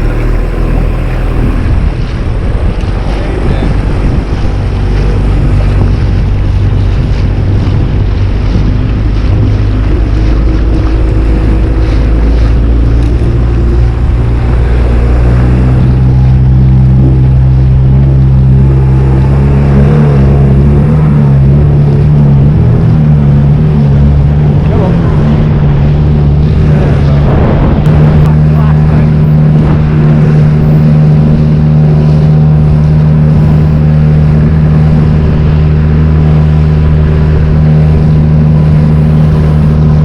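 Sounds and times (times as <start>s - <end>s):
outboard motor running: 0.0s - 40.0s
water noise: 0.0s - 40.0s
wind: 0.0s - 40.0s.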